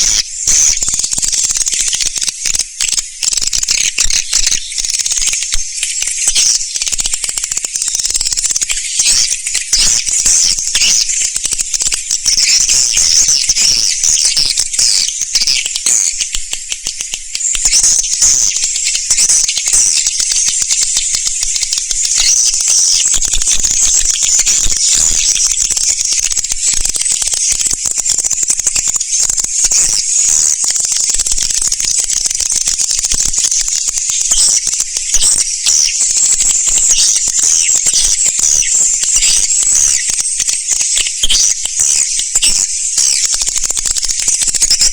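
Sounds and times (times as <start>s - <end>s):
swiftlets twittering: 0.0s - 44.9s.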